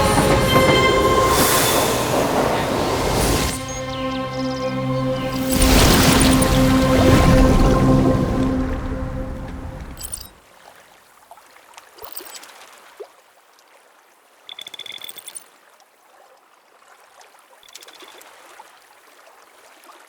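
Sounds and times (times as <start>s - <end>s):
trickling stream water: 1.3s - 20.0s.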